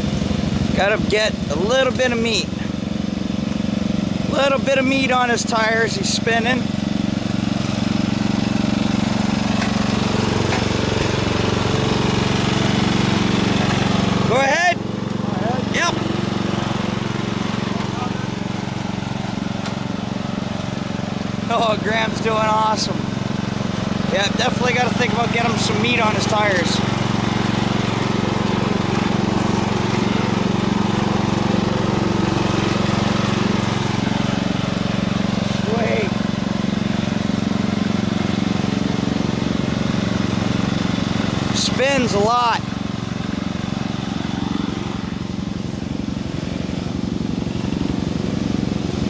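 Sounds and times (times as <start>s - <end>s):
lawn tractor engine running: 0.0s - 49.0s.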